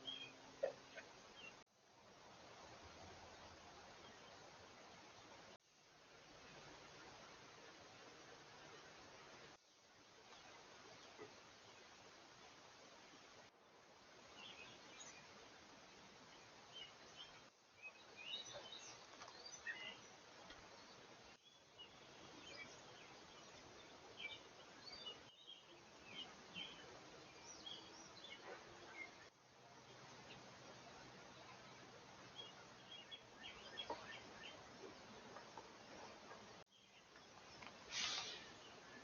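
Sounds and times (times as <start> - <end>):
songbirds chirping: 0.0 - 39.0
steady hiss: 0.0 - 39.0.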